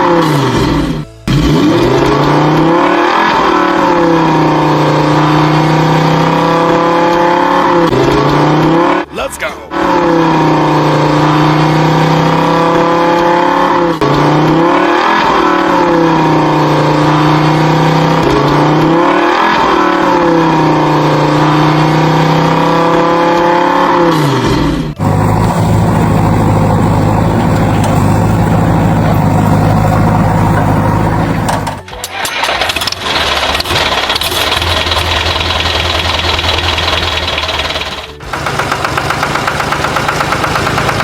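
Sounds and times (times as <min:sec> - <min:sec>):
vehicle engine revving: 0:00.0 - 0:41.0.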